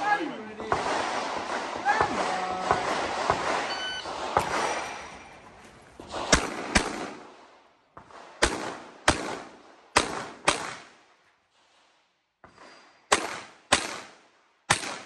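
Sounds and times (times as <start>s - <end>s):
pistol shots with echo: 0.0s - 10.9s, 13.1s - 15.0s.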